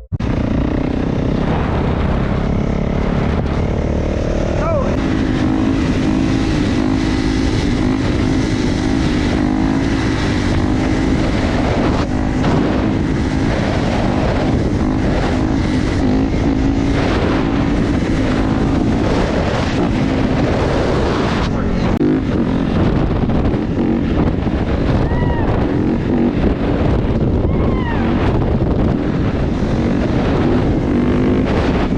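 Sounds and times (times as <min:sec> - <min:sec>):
motorcycle engine running: 0:00.0 - 0:31.9
wind and road noise: 0:00.0 - 0:31.9.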